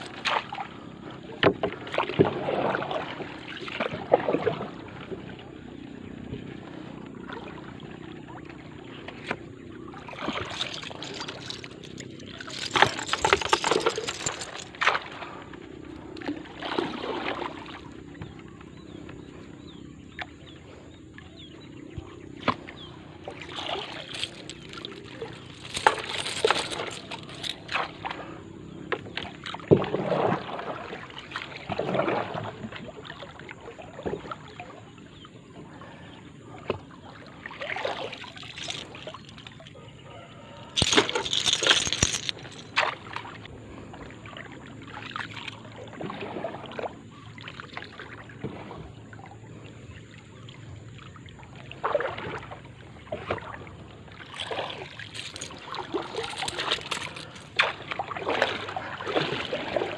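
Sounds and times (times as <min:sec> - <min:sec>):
water splashing against canoe: 0:00.0 - 0:35.0, 0:35.6 - 0:59.9.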